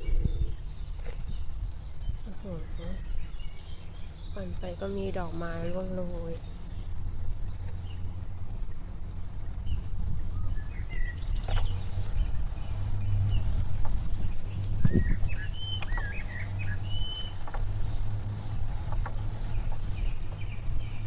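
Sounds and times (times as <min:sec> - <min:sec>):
bicycle rolling on pavement rumble: 0:00.0 - 0:21.0
songbirds chirping and whistling: 0:00.0 - 0:21.0.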